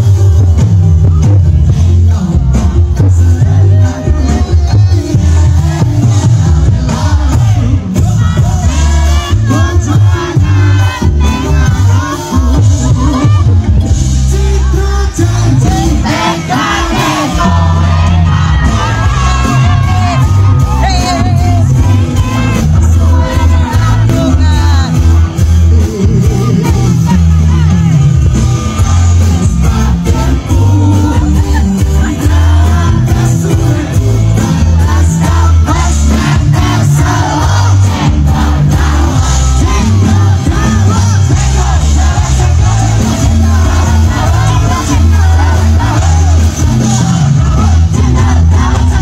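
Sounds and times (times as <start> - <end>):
live band music with heavy bass: 0.0 - 49.0
man singing into microphone: 0.0 - 49.0
crowd shouting along: 3.0 - 49.0.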